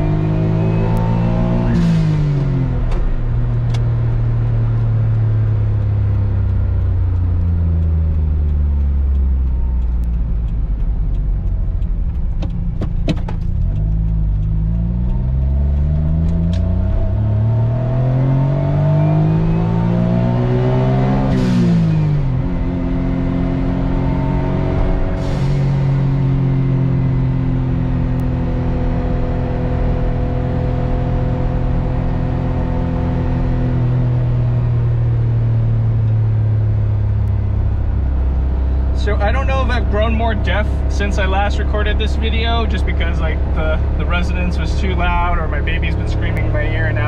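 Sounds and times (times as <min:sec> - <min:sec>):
turbocharged car engine revving: 0:00.0 - 0:47.0.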